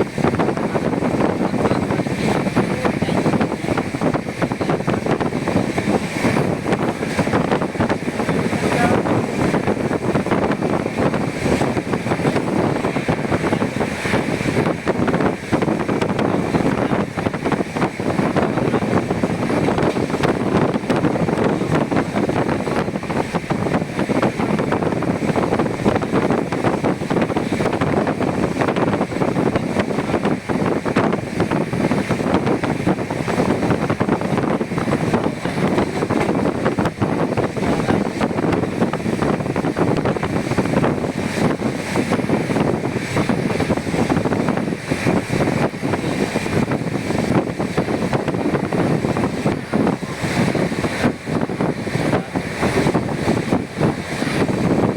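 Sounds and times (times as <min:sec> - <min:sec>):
train rumble and rattling: 0:00.0 - 0:54.9
wind on microphone: 0:00.0 - 0:54.9.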